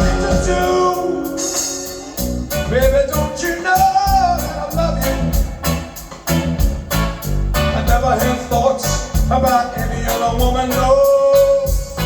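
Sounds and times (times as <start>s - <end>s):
person singing: 0.0s - 5.4s, 7.6s - 12.0s
rock band playing: 0.0s - 12.0s.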